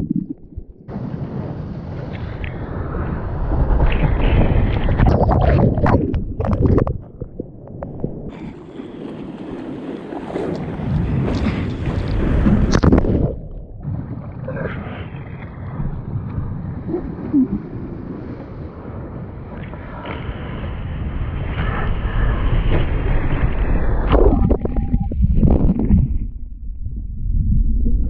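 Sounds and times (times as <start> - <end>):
low rumble: 0.0 - 9.1, 10.8 - 28.0
surf splashing: 0.0 - 23.7
wind buffeting microphone: 0.0 - 27.8.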